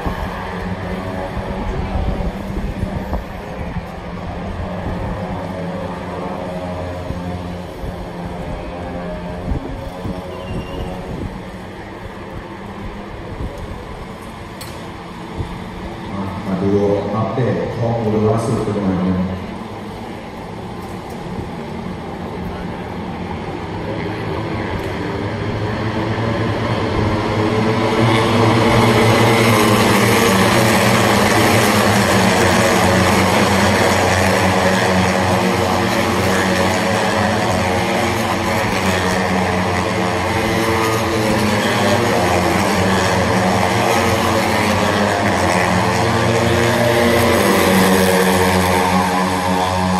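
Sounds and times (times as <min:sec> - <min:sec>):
racing motorcycle engines: 0:00.0 - 0:49.9.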